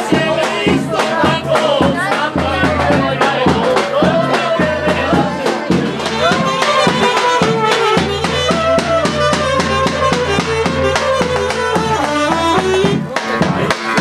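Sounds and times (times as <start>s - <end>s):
bass drum beat: 0.0s - 14.0s
folk band playing: 0.0s - 14.0s.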